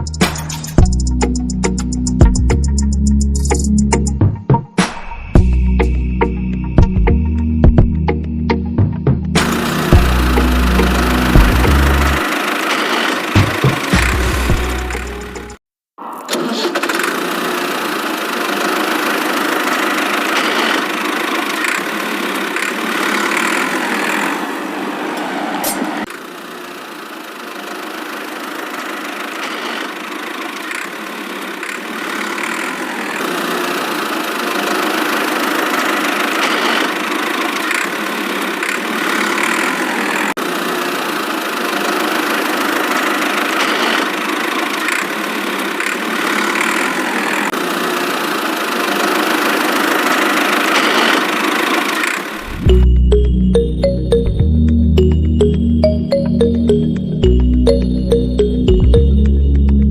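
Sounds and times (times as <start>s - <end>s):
small engine running: 9.4s - 15.6s, 16.3s - 59.9s.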